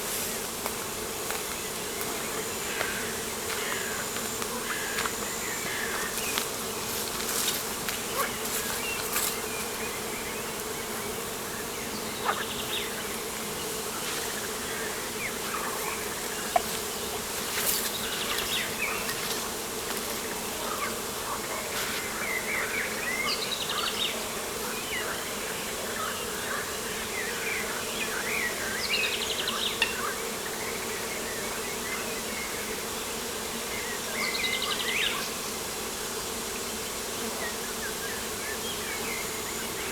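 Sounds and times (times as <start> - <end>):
buzzing insects: 0.0 - 39.9.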